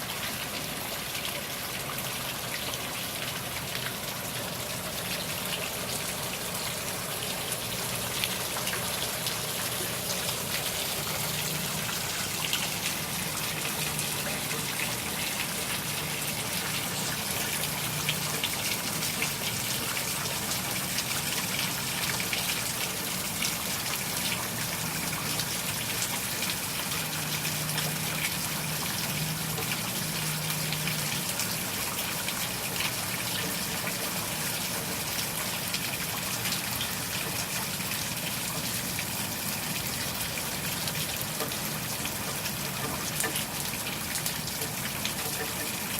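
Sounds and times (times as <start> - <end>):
water gushing and dripping: 0.0 - 45.9
heavy rain: 3.1 - 45.9.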